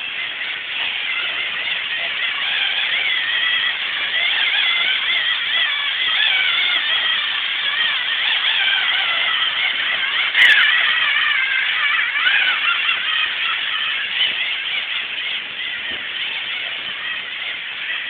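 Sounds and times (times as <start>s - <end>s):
servo motors whining: 0.0s - 18.0s.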